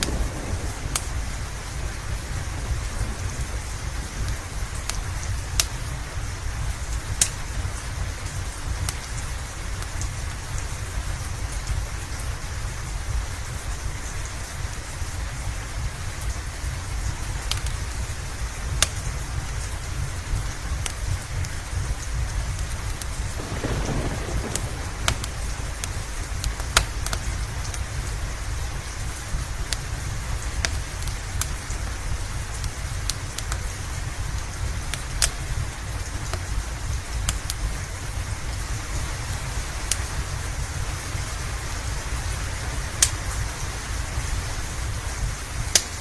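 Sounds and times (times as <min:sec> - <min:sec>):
steady rain: 0:00.0 - 0:46.0
wood fire crackling: 0:00.0 - 0:46.0.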